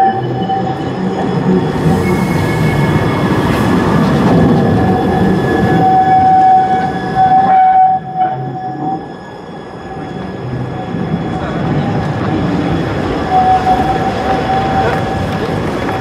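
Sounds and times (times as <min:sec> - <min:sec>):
high wheel squeal: 0:00.0 - 0:16.0
tram rolling rumble: 0:00.0 - 0:16.0.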